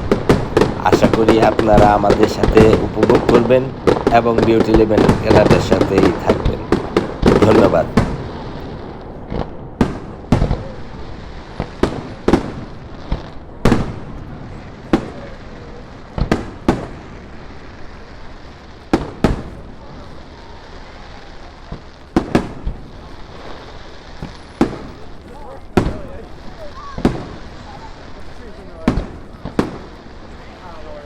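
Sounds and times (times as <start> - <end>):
fireworks bursting with echo: 0.0 - 31.0.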